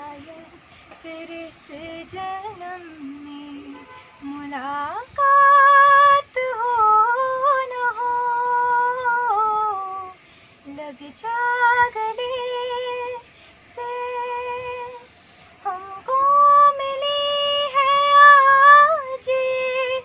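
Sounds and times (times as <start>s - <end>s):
young woman singing: 0.0s - 20.0s.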